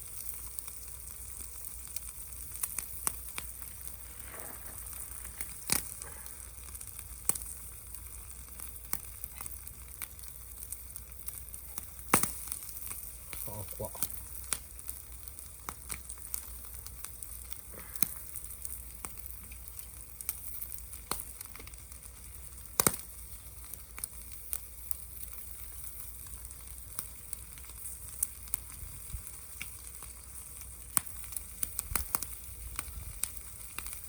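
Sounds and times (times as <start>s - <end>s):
fire popping and crackling: 0.0s - 34.0s
food sizzling in a pan: 0.0s - 34.0s.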